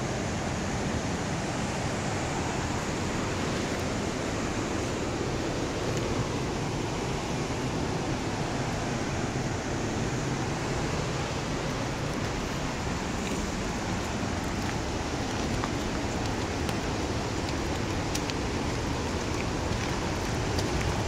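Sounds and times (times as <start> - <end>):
rushing creek water and falls: 0.0 - 21.0.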